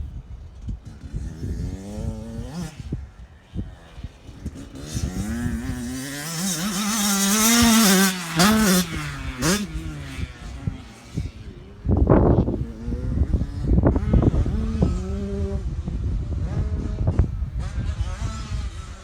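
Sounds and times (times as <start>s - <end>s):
motor engine revving: 0.8s - 19.0s.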